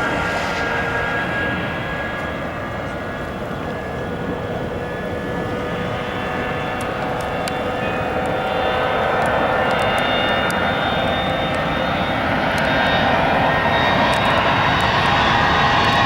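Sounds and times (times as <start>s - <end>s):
jet engines at takeoff power: 0.0s - 16.0s.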